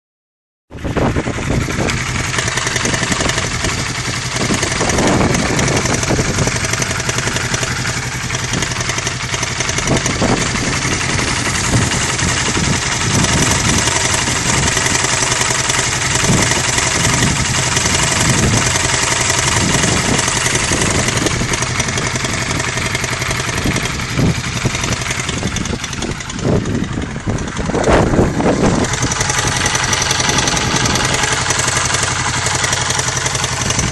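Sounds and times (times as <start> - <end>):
engine rattle: 0.7 - 33.9
motorcycle engine idling: 0.7 - 33.9.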